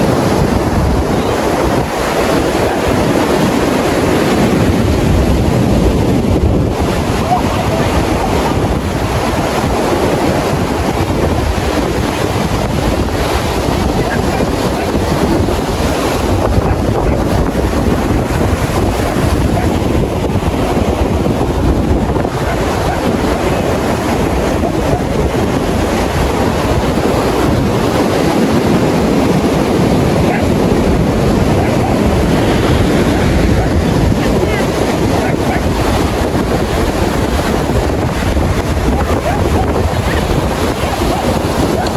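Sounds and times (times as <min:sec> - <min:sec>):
surf breaking on beach: 0:00.0 - 0:41.9
wind buffeting microphone: 0:00.0 - 0:41.9.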